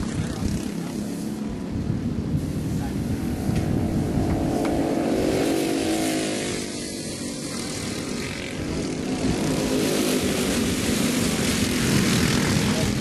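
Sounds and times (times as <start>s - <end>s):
racing kart engines: 0.0s - 13.0s.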